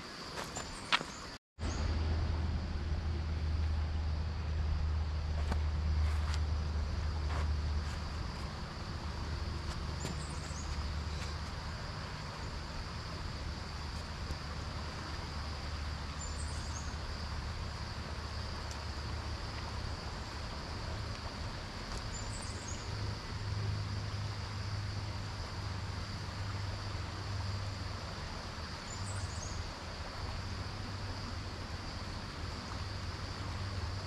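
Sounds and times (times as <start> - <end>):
high insect drone: 0.0 - 34.0
low steady rumble: 1.6 - 34.0.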